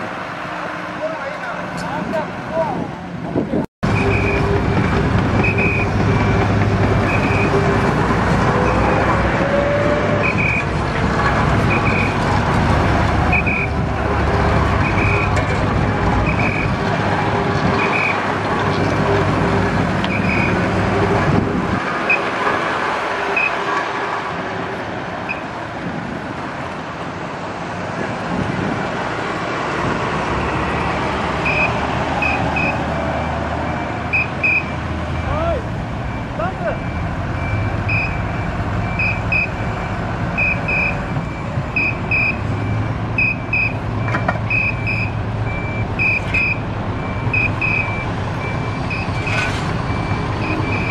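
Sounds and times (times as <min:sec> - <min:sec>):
crane diesel engine running: 0:03.8 - 0:50.9.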